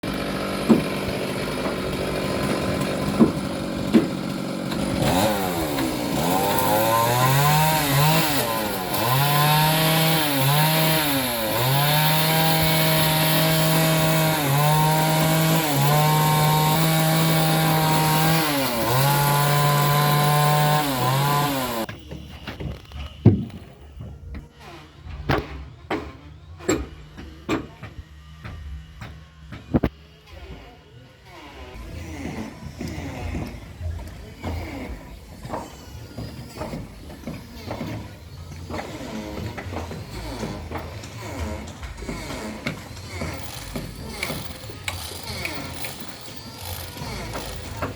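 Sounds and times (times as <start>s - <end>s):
power saw cutting timber: 0.0s - 23.6s, 24.4s - 47.9s.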